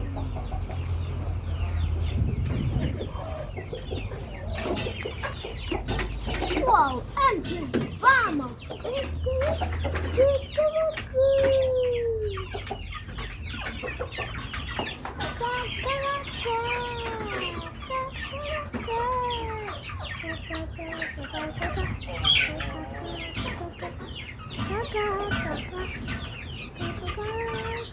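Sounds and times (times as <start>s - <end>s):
chickens clucking and calling: 0.0s - 27.9s.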